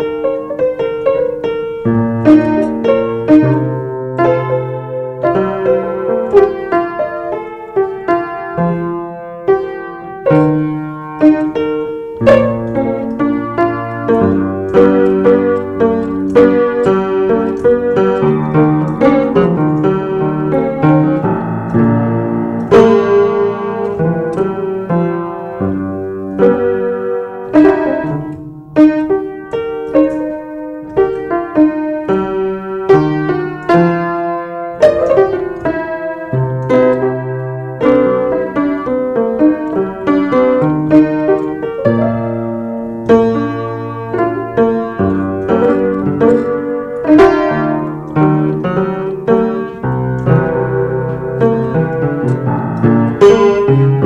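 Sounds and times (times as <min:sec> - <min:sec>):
keyboard piano playing: 0:00.0 - 0:54.0.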